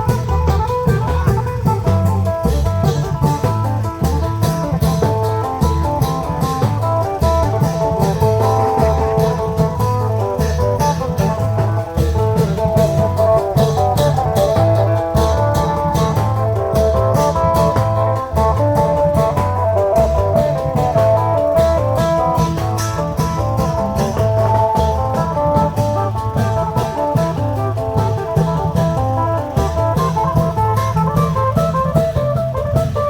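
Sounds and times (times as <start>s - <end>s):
deep drum beats: 0.0s - 33.0s
plucked-string melody: 0.0s - 33.0s.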